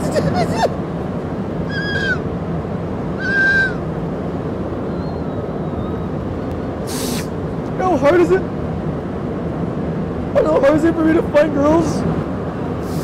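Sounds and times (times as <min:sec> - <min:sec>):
subway car rumble: 0:00.0 - 0:13.0.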